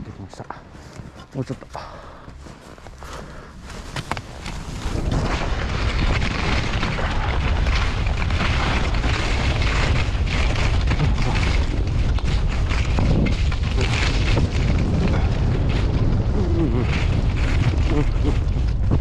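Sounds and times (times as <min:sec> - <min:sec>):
wind buffeting microphone: 0:02.9 - 0:19.0.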